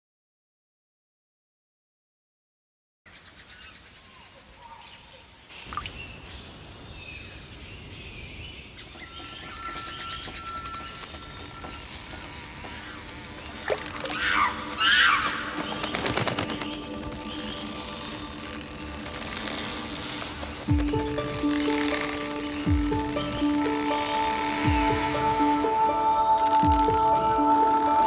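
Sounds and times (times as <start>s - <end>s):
bird calls: 3.1s - 28.0s
insects trilling: 3.1s - 28.0s.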